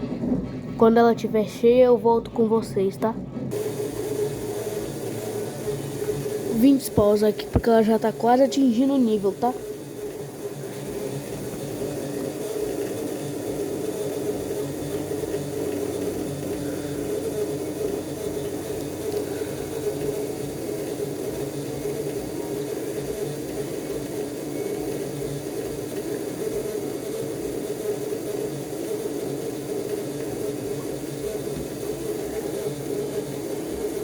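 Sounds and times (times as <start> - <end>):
washing machine filling with water: 3.5 - 34.0.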